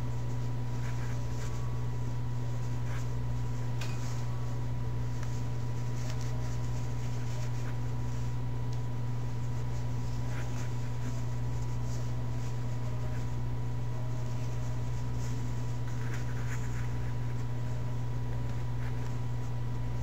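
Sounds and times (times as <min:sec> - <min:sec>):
towel rustling: 0:00.0 - 0:18.0
low electrical hum: 0:00.0 - 0:20.0.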